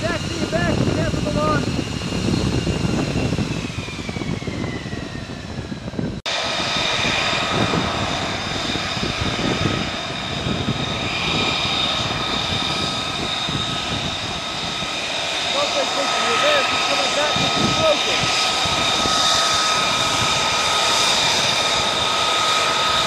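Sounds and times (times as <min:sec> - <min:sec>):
jet engine roar with turbine whine: 0:00.0 - 0:23.0.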